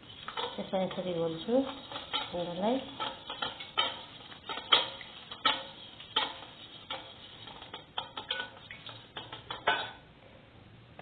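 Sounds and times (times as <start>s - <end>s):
wire whisk beating in metal bowl: 0.0s - 10.0s.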